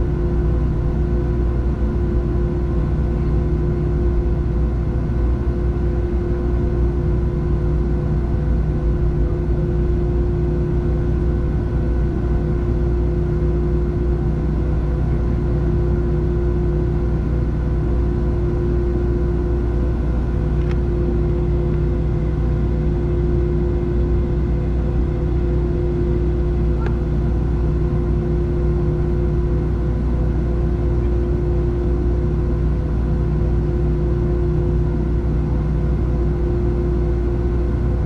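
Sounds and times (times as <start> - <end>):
jet engine cabin rumble: 0.0 - 38.0.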